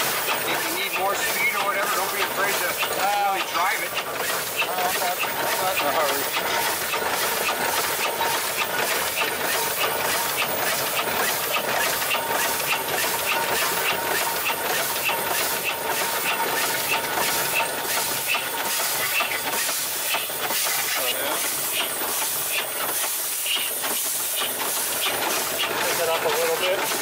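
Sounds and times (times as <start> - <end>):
steam engine hissing with regular beat: 0.0 - 27.0.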